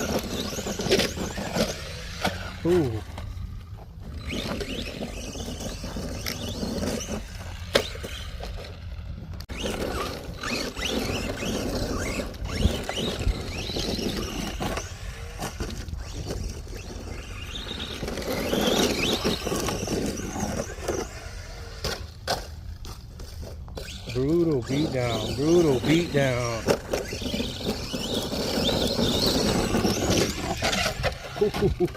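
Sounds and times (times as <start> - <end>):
toy car electric motor whining: 0.0 - 31.9
tyres on dirt: 0.0 - 31.9.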